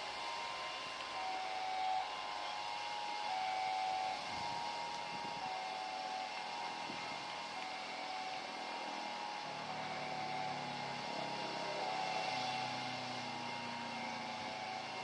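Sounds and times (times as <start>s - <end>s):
engine noise hiss: 0.0s - 15.0s.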